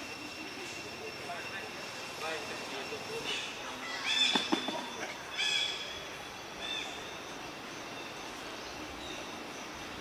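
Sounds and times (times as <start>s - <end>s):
forest background hiss: 0.0s - 10.0s.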